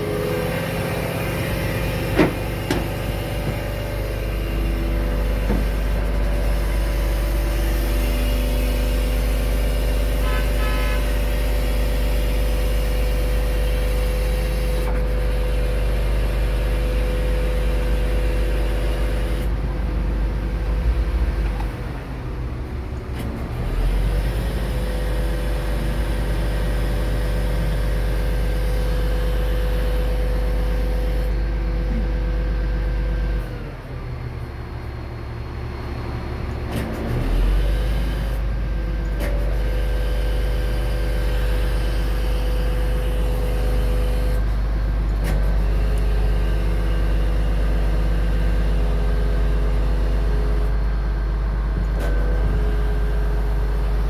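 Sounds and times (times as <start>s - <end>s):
hydraulic crane whine: 0.0s - 54.0s
truck engine drone: 0.0s - 54.0s.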